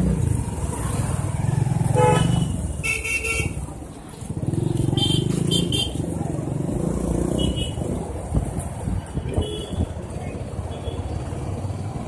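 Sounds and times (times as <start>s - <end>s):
motorbike rumbling: 0.0s - 12.0s.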